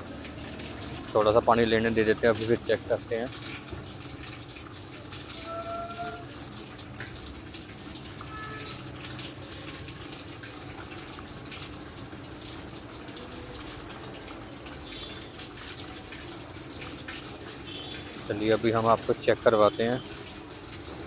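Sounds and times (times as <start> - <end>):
water pouring into washing machine: 0.0 - 21.0.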